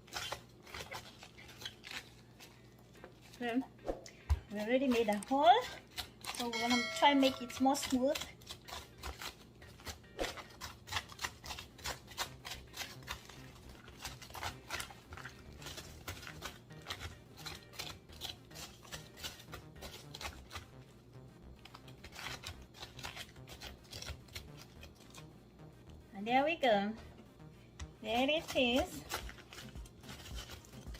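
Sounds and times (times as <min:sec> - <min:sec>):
knife scraping and cutting cabbage: 0:00.0 - 0:03.6, 0:04.5 - 0:20.8, 0:21.6 - 0:25.3, 0:28.1 - 0:30.9.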